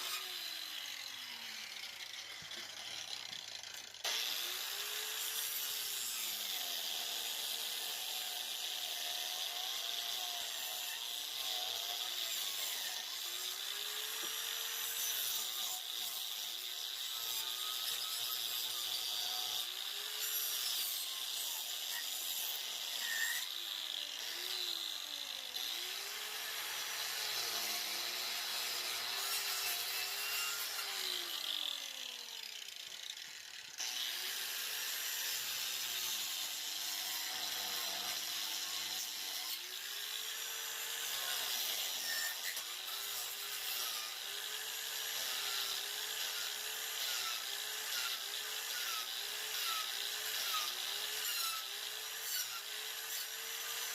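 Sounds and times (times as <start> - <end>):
angle grinder cutting wood: 0.0 - 53.9.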